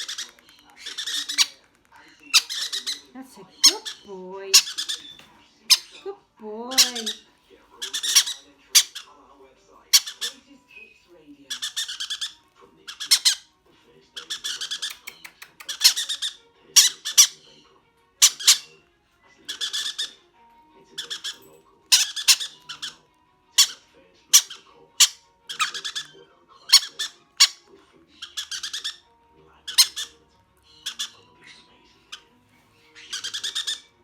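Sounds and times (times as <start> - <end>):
parrot chicks squawking: 0.0 - 34.0.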